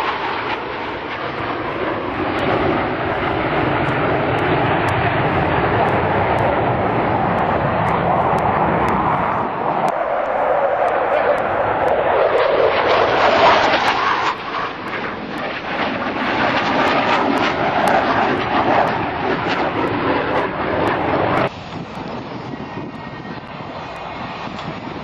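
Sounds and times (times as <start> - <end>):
jet roar passing: 0.0 - 25.0.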